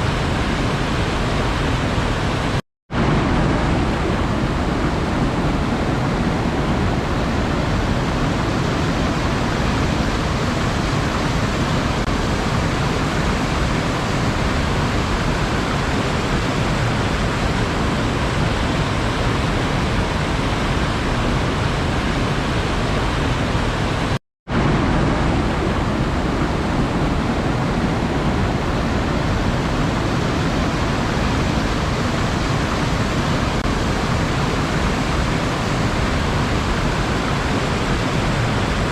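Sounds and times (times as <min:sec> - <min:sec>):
sea water rushing: 0:00.0 - 0:38.9.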